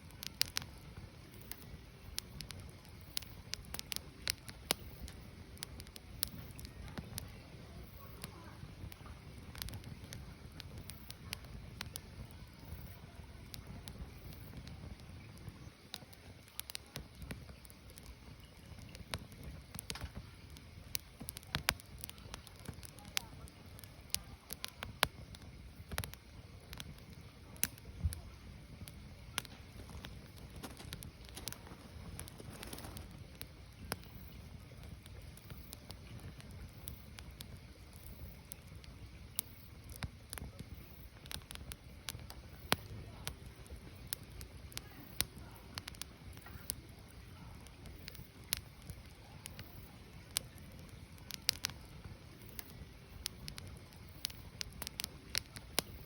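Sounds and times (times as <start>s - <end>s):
firewood crackling and popping: 0.0s - 56.0s
flames rustling: 0.0s - 56.0s
low fire rumble: 0.0s - 56.0s.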